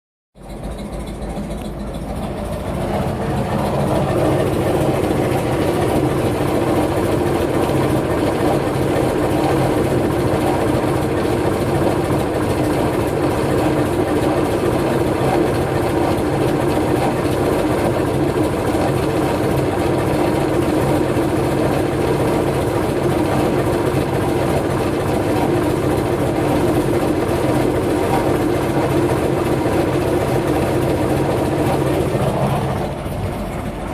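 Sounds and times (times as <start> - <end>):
engine running: 0.4 - 33.9.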